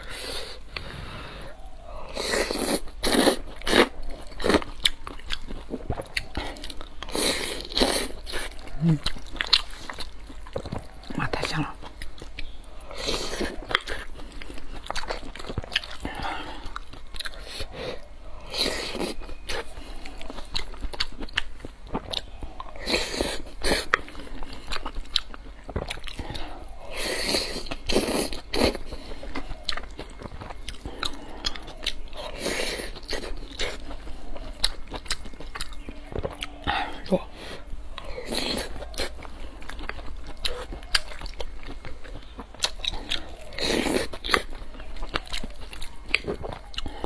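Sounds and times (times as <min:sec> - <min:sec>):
wet chewing: 0:00.0 - 0:47.0.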